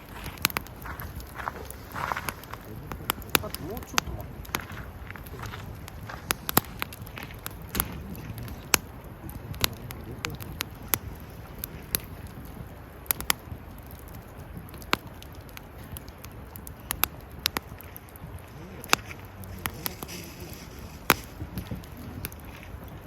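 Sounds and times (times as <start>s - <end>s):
fire pops and snaps: 0.0s - 23.0s
fire rustling: 0.0s - 23.0s.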